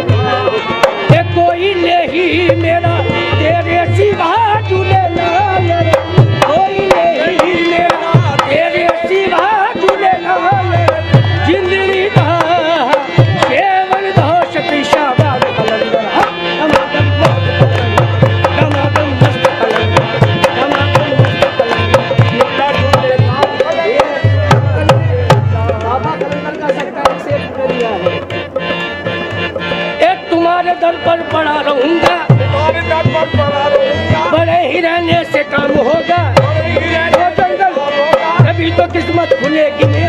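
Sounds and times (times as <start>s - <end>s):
dholak drumming: 0.0s - 40.0s
harmonium playing: 0.0s - 40.0s.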